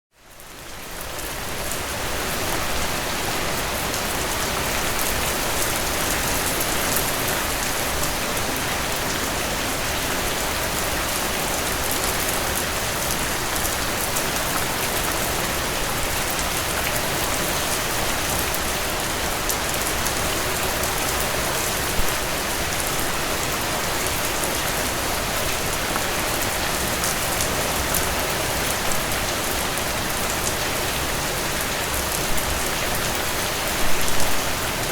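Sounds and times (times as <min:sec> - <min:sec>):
rain on a hard surface: 0:00.1 - 0:34.9.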